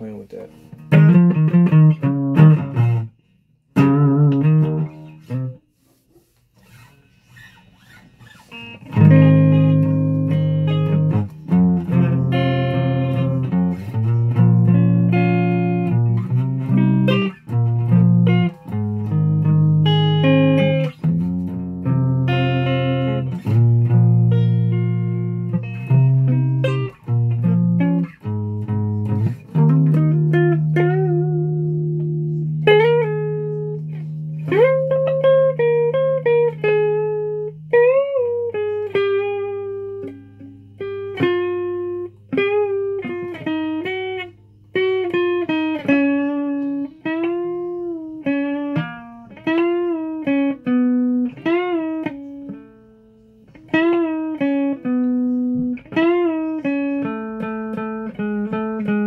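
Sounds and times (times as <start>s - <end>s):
guitar notes and chords: 0.0s - 59.0s.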